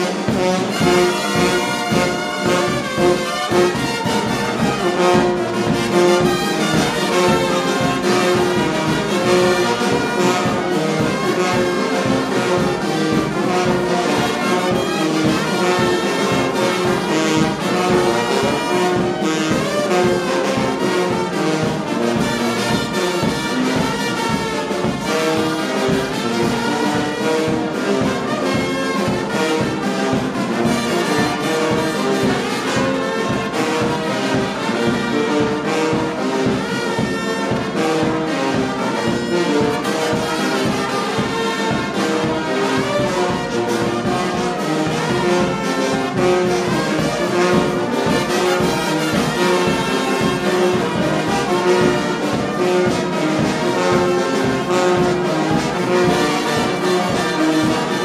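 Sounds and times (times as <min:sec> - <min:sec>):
brass band playing held notes: 0:00.0 - 0:58.0.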